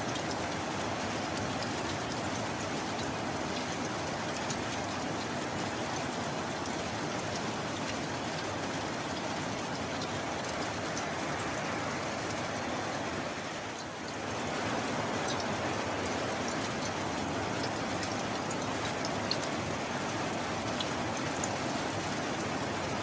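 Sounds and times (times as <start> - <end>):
rain falling: 0.0 - 23.0
raindrop ticks: 0.0 - 23.0.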